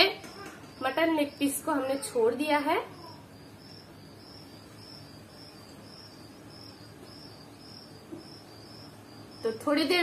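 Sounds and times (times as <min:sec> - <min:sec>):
cricket chirping: 0:00.0 - 0:10.0
faint background hiss: 0:00.0 - 0:10.0.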